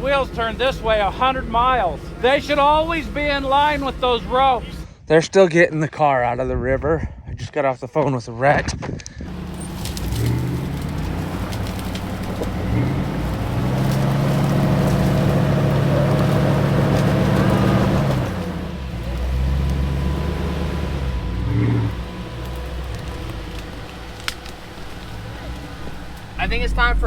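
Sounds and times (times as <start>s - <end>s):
vehicle engine revving: 0.0s - 4.9s, 9.3s - 27.0s.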